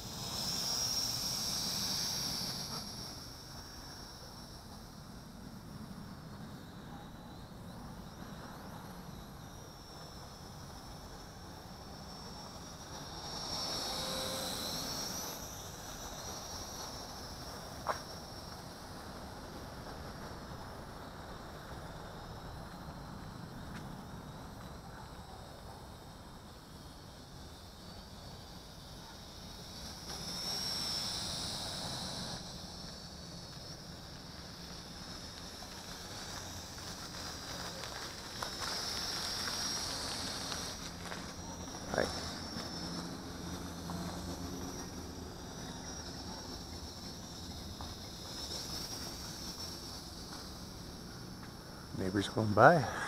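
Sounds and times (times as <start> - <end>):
quadcopter propellers whining: 0.0 - 6.8, 8.0 - 53.0.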